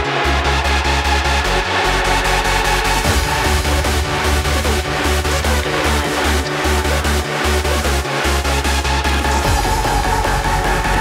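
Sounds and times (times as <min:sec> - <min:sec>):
hardstyle electronic music: 0:00.0 - 0:11.0.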